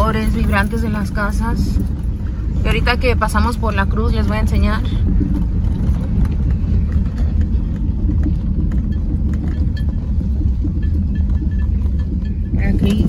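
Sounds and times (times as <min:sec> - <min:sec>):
engine and tyre rumble: 0:00.0 - 0:13.0
faint clicks and rattles: 0:00.0 - 0:13.0.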